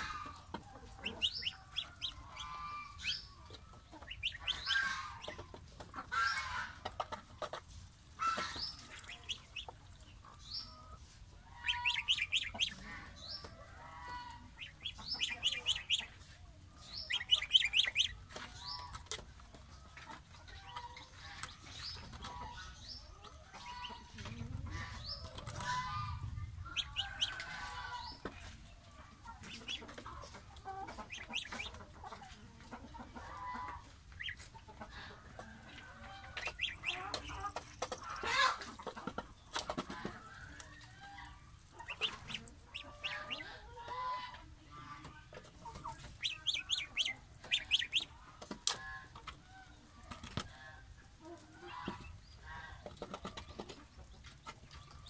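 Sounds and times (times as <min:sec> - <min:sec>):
bills pecking plastic feeder: 0:00.0 - 0:26.0, 0:26.8 - 0:55.0
gosling and duckling peeping: 0:00.0 - 0:55.0.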